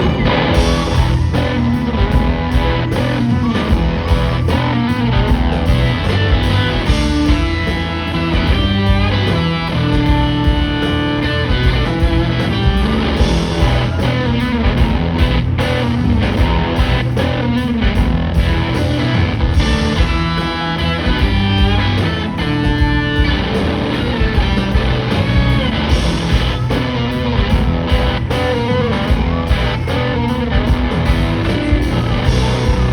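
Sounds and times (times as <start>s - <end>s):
electric guitar: 0.0s - 32.9s
live rock band playing: 0.0s - 32.9s.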